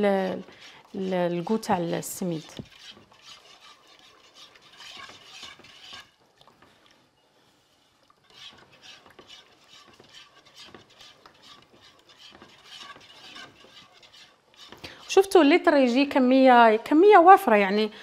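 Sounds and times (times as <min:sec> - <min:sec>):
whisk scraping metal saucepan: 0:00.0 - 0:06.5, 0:07.7 - 0:15.7.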